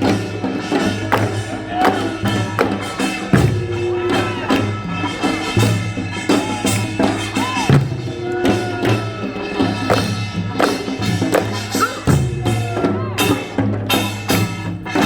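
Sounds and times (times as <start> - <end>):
percussion strikes: 0.0 - 15.0.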